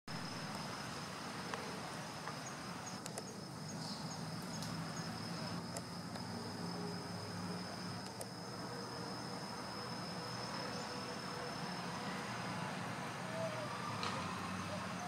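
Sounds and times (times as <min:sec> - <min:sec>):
insect trill: 0:00.1 - 0:15.0.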